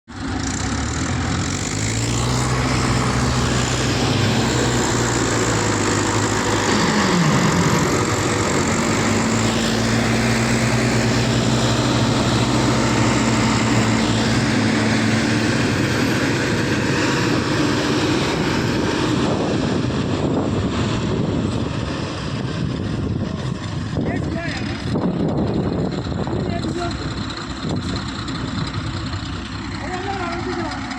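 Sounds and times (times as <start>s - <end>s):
heavy diesel engines running: 0.1s - 30.9s.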